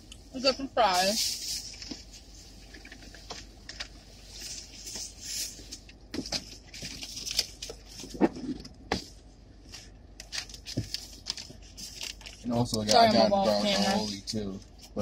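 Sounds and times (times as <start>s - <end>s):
paper wrappers rustling: 0.9s - 8.6s, 9.8s - 15.0s.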